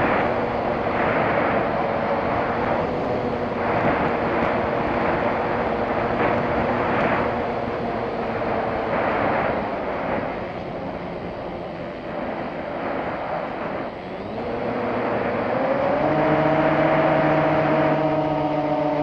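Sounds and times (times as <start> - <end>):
wind rushing: 0.0 - 18.4
model airplane motor droning: 0.0 - 19.0.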